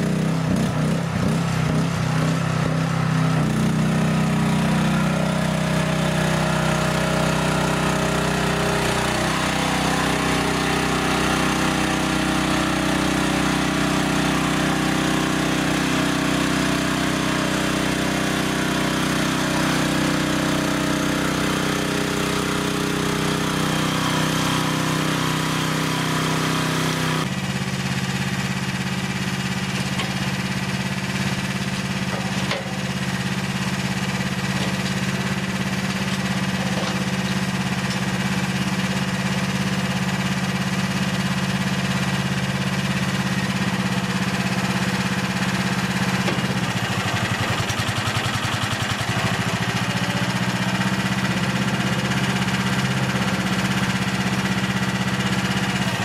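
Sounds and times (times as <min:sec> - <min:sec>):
dumper engine running under load: 0:00.0 - 0:56.0
engine idling: 0:00.0 - 0:56.0.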